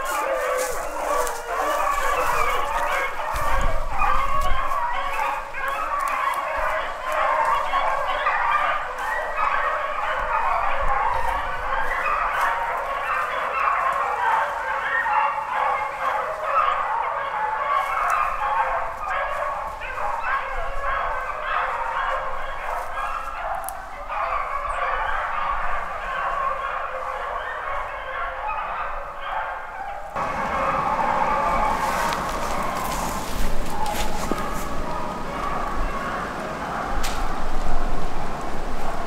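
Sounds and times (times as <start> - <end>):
hounds baying: 0.0 - 39.0.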